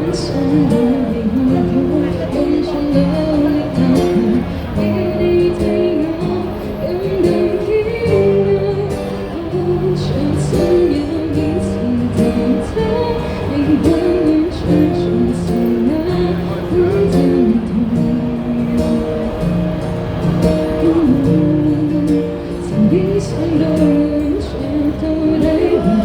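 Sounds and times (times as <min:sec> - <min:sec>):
person singing: 0:00.0 - 0:19.3, 0:20.5 - 0:26.0
strummed guitar: 0:00.0 - 0:26.0.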